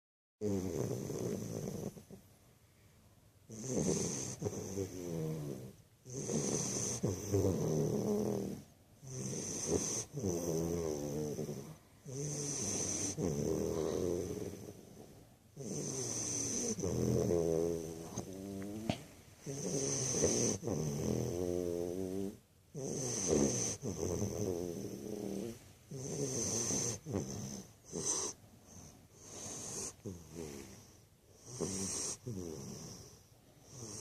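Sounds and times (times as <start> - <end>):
puppy snoring: 0.4 - 2.3, 3.5 - 34.0.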